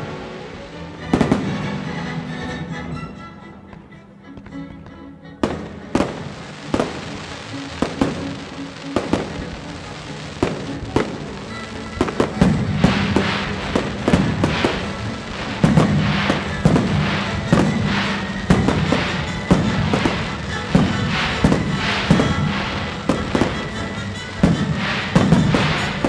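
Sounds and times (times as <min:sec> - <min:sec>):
fireworks bangs: 0:00.0 - 0:02.2, 0:05.4 - 0:26.0
fireworks crackling: 0:00.0 - 0:02.8, 0:03.7 - 0:26.0
orchestral music: 0:00.0 - 0:26.0.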